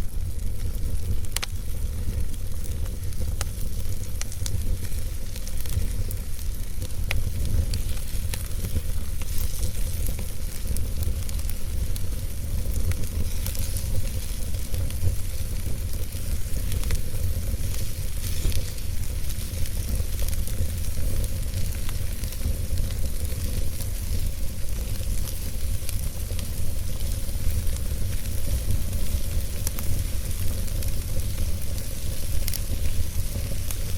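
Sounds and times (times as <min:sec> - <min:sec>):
fire hissing: 0:00.0 - 0:33.9
fireplace fire crackling: 0:00.0 - 0:33.9.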